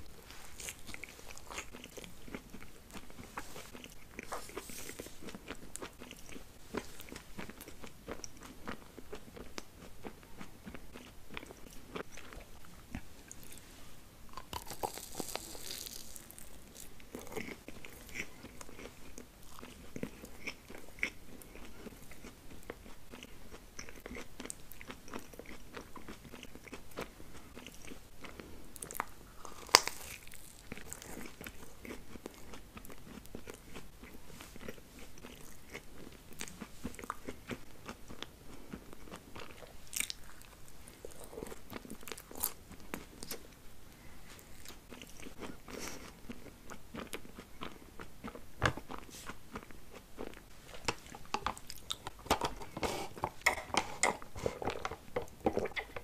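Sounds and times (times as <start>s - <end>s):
person chewing candy: 0.0s - 13.7s, 14.3s - 56.0s.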